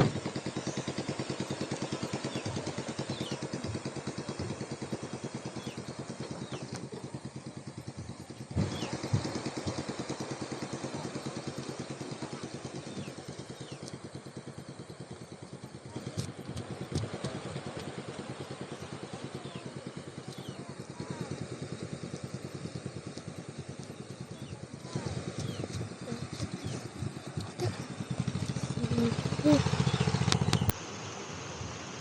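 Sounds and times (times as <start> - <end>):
small engine puttering: 0.0 - 30.8.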